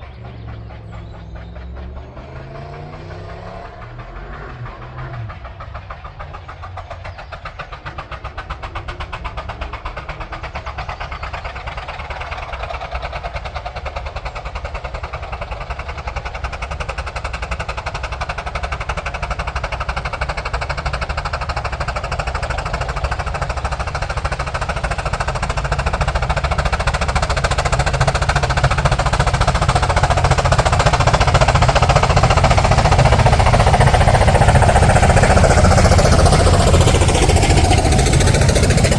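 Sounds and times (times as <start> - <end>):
steam locomotive exhaust beats: 0.0 - 38.9.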